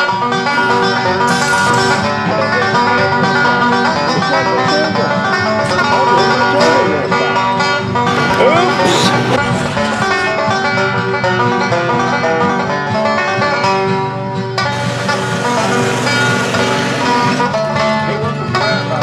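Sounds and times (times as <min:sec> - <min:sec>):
bluegrass banjo and guitar music: 0:00.0 - 0:19.0.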